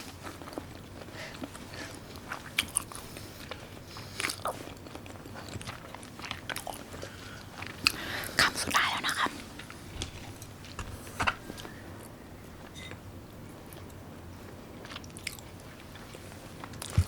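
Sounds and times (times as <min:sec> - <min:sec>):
person chewing food: 0:00.1 - 0:12.1, 0:14.8 - 0:17.0.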